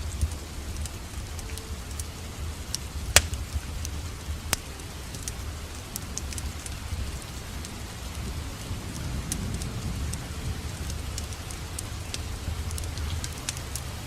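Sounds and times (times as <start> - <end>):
crackling wood fire: 0.0 - 14.0
steady rain: 0.0 - 14.0.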